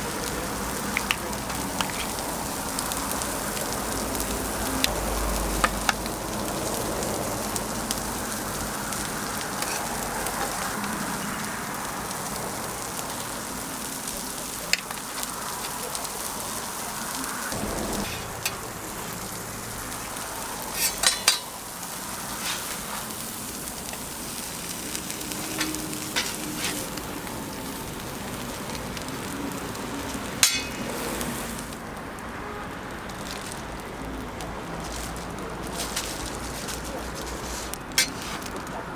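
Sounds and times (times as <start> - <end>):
food sizzling on a griddle: 0.0 - 38.9.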